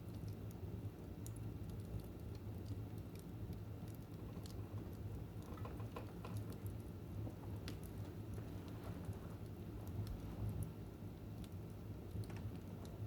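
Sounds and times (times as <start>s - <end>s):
low rumble of fire: 0.0s - 13.0s
fire crackling: 0.1s - 13.0s.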